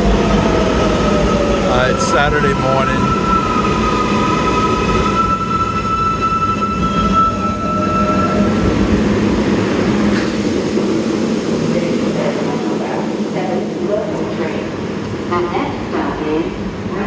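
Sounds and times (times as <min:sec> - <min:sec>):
subway train wheels rumbling: 0:00.0 - 0:17.0.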